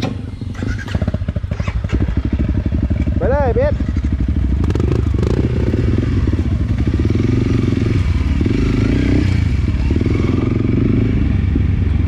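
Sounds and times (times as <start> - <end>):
dirt bike engine at low revs: 0.0 - 12.0.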